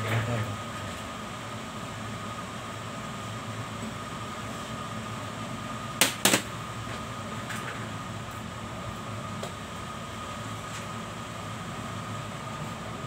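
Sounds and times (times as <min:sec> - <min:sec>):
mechanical hum with high whine: 0:00.0 - 0:13.0.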